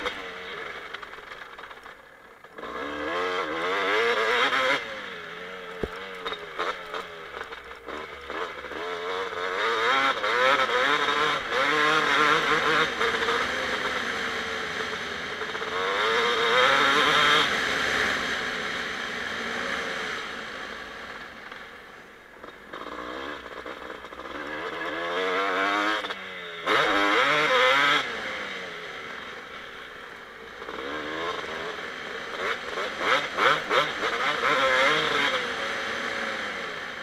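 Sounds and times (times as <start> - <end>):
two-stroke engine revving: 0.0 - 21.6, 22.4 - 37.0.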